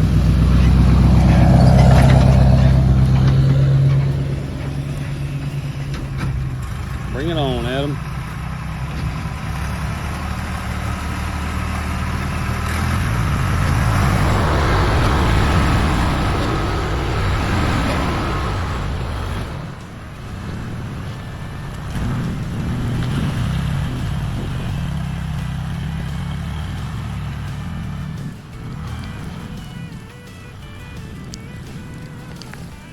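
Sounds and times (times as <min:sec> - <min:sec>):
diesel pickup truck engine: 0:00.0 - 0:32.9.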